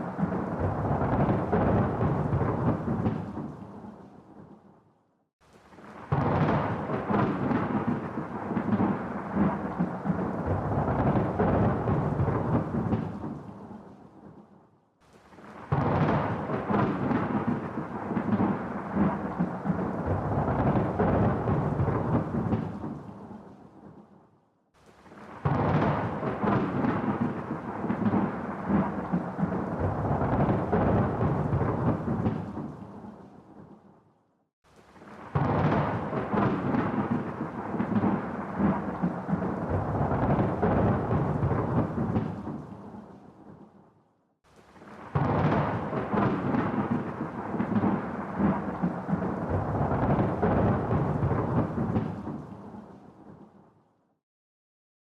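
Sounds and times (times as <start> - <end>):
thunder rolling: 0.0 - 4.6, 5.7 - 14.4, 15.3 - 24.0, 25.0 - 33.8, 34.9 - 43.6, 44.7 - 53.4.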